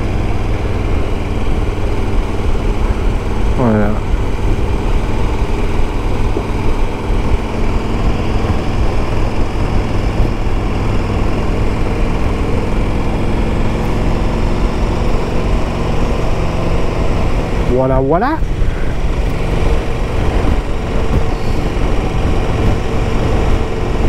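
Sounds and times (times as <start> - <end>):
motorcycle engine running: 0.0 - 24.0
wind rush of riding: 0.0 - 24.0.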